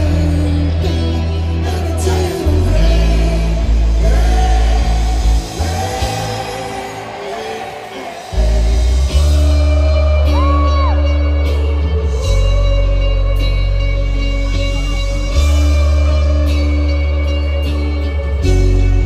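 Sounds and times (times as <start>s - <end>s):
heavy sustained bass notes: 0.0s - 6.8s, 8.4s - 19.0s
live pop band music: 0.0s - 19.0s
male lead vocal: 0.0s - 19.0s.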